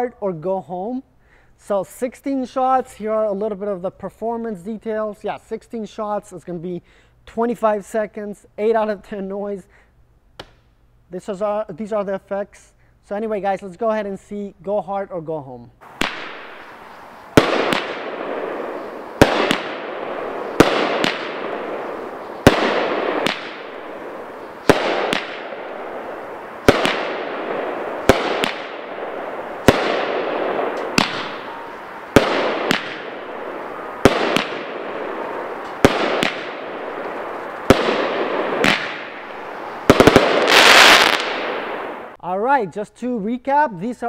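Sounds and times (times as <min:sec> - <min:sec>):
fireworks reports: 0:01.6 - 0:09.8, 0:11.1 - 0:44.0.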